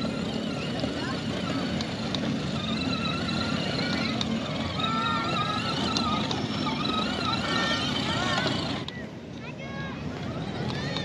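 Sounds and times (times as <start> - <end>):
small electric motor running: 0.0 - 9.0, 9.7 - 11.0
plastic wheels rumbling on bricks: 0.0 - 11.0.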